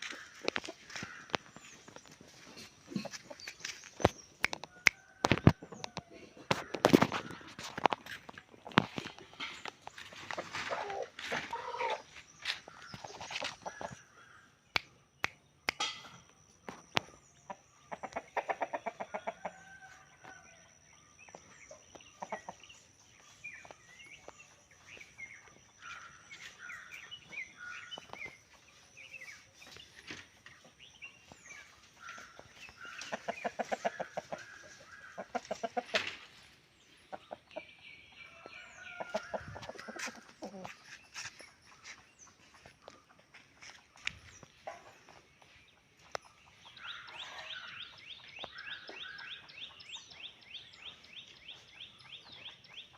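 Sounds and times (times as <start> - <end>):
chickens clucking: 0.0 - 14.8, 15.7 - 20.4, 21.2 - 52.9.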